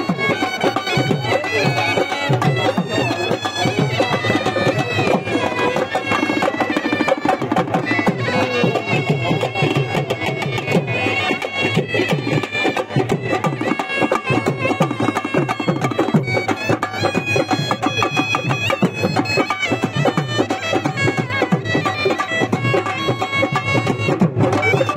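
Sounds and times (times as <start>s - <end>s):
fast drumming: 0.0s - 24.9s
reedy shehnai melody: 0.0s - 24.9s.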